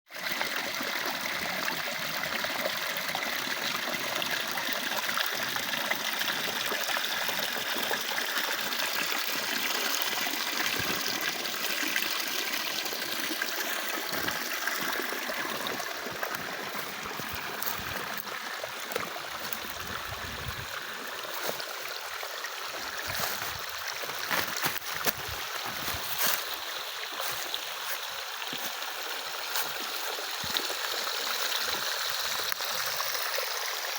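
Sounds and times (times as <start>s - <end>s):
water running along wooden channel: 0.1s - 33.9s.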